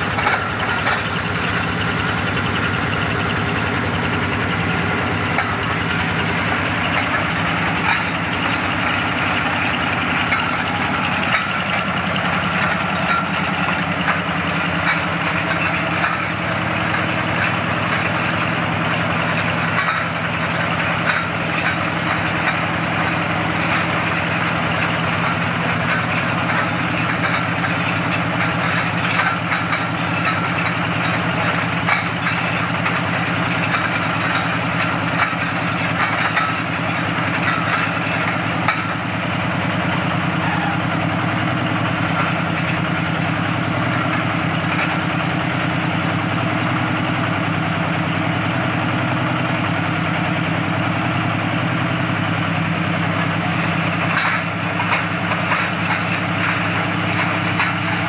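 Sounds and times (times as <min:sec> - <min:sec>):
belts and drill clattering: 0:00.0 - 0:58.0
small stationary engine running: 0:00.0 - 0:58.0.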